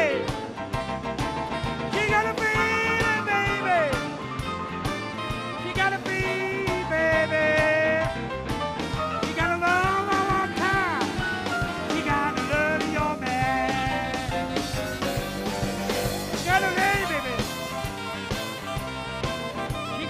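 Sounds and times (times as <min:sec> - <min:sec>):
drums steady beat: 0:00.0 - 0:20.0
live rock band: 0:00.0 - 0:20.0.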